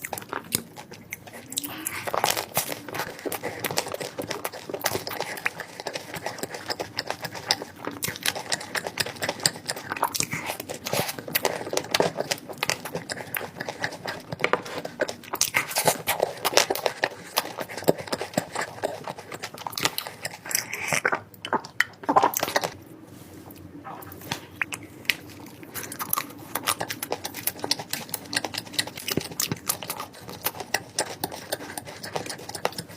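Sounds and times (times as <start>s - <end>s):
person eating chocolate: 0.0s - 32.9s.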